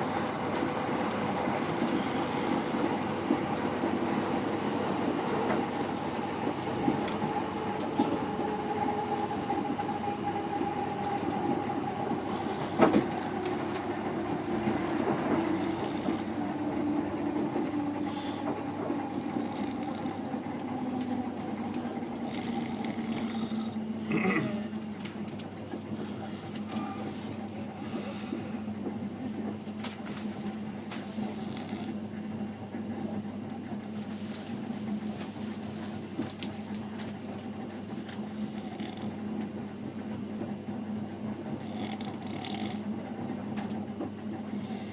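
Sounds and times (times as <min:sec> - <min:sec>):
train rumble with motor whine: 0:00.0 - 0:44.9.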